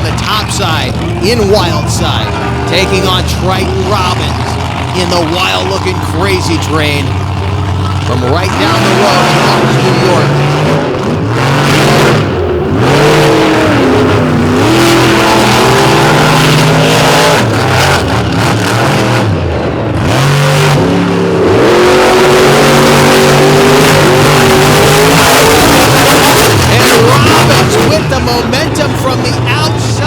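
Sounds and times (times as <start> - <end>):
truck engines racing: 0.0 - 30.0.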